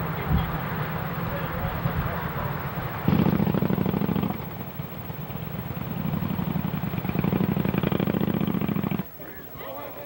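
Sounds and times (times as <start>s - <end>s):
vehicle engine running: 0.0s - 9.1s.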